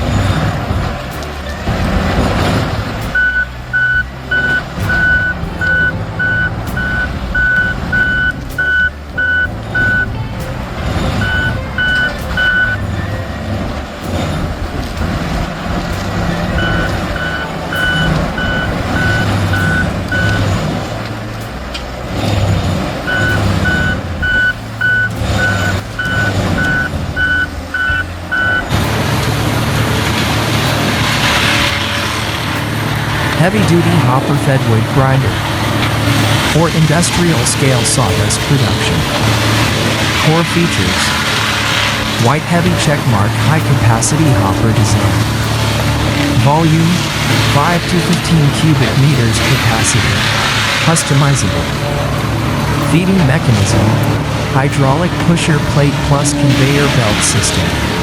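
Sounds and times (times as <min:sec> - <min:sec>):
machine engine running: 0:00.0 - 0:58.0
reversing alarm beeping: 0:01.2 - 0:10.2, 0:11.1 - 0:14.4, 0:16.3 - 0:20.9, 0:22.4 - 0:58.0.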